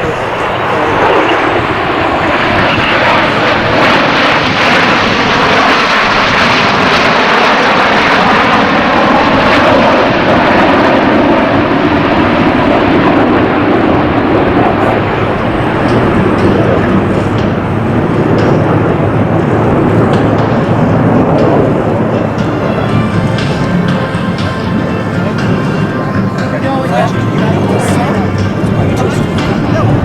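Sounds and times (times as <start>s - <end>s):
jet roar: 0.0s - 30.0s.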